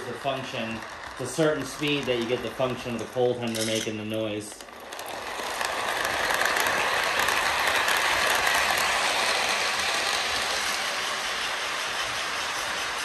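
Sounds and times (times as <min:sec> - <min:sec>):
toy train mechanical noise: 0:00.0 - 0:13.0.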